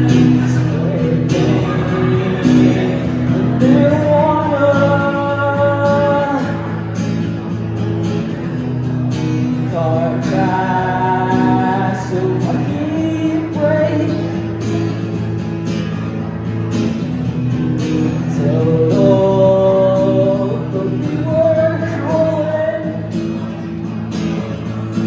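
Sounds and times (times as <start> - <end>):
guitar strumming: 0.0 - 25.0.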